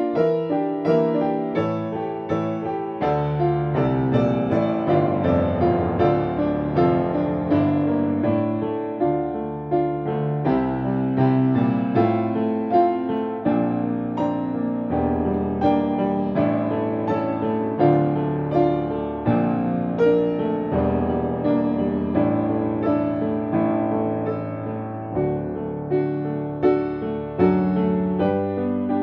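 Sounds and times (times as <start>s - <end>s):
soft slow piano playing: 0.0s - 29.0s.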